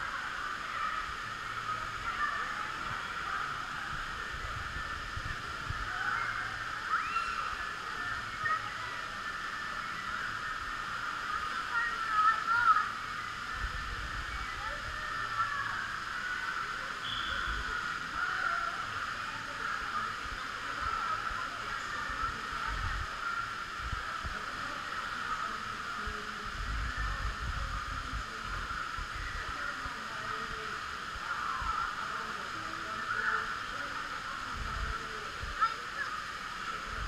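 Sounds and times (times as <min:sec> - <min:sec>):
running and splashing water: 0:00.0 - 0:37.0.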